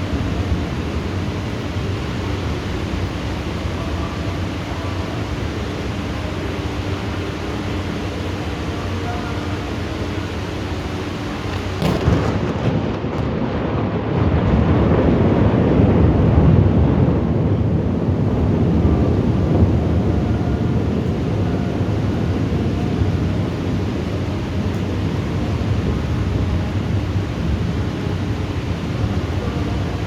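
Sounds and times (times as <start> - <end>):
thunder crack and rumble: 0.0 - 7.0, 11.5 - 30.0
rain hissing: 0.0 - 30.0.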